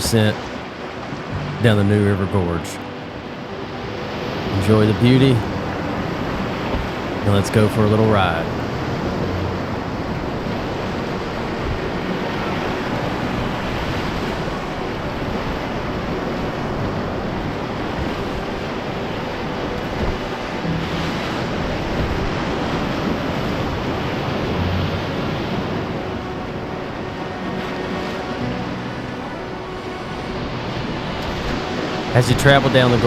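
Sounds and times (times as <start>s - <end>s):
rushing whitewater: 0.0s - 33.0s
wind buffeting microphone: 0.0s - 33.0s.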